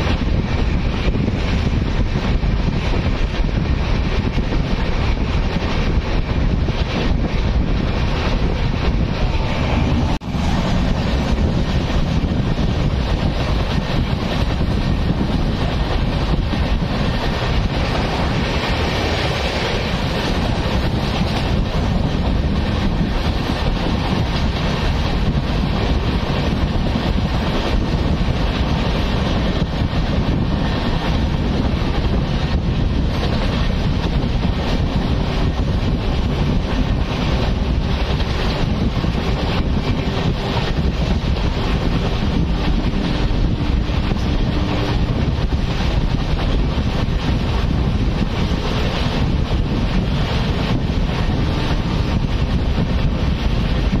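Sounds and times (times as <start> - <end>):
train running: 0.0 - 54.0
wind buffeting microphone: 0.0 - 54.0.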